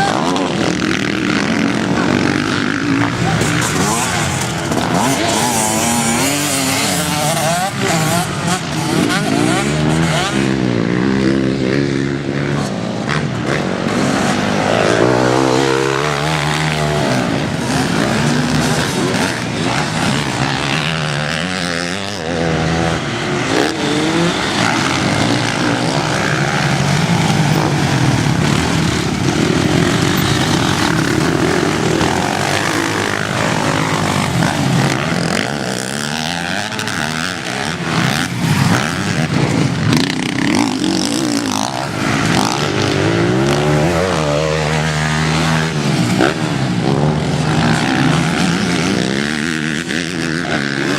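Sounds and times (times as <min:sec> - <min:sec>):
motocross bike engines revving: 0:00.0 - 0:50.9.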